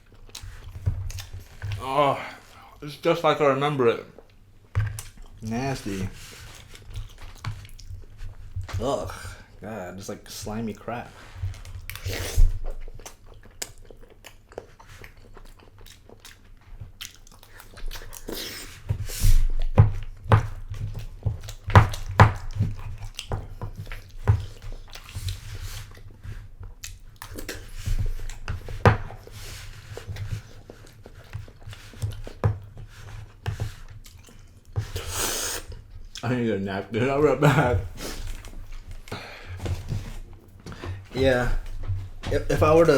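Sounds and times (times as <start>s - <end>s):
person chewing food: 0.0s - 2.8s, 4.1s - 9.6s, 11.2s - 36.3s, 37.7s - 42.9s.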